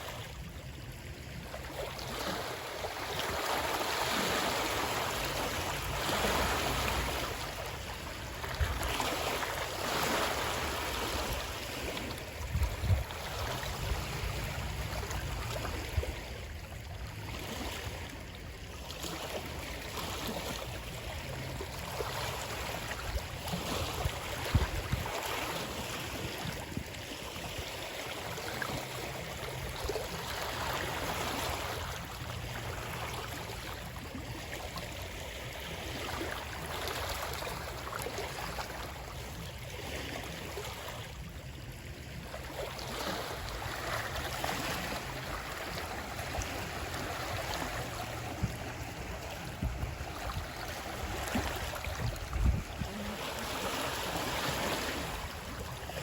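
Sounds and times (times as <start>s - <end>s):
water rushing and splashing: 0.0s - 56.0s.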